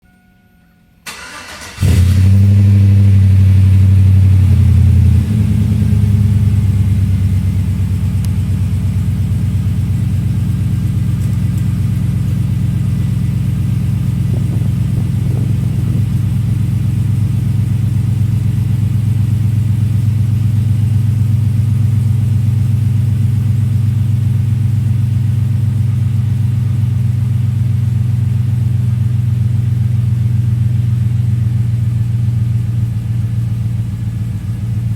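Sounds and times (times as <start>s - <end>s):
engine idling: 1.0s - 34.9s.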